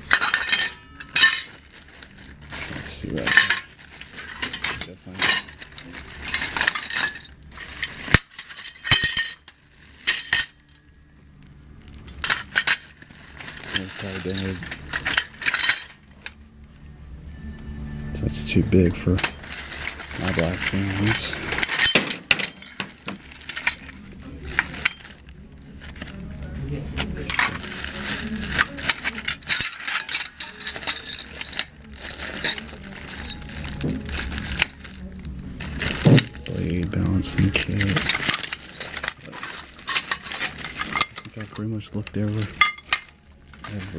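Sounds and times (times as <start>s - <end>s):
metal parts clinking: 0.0s - 10.8s, 12.0s - 16.4s, 19.1s - 25.2s, 27.2s - 35.1s, 35.7s - 43.9s.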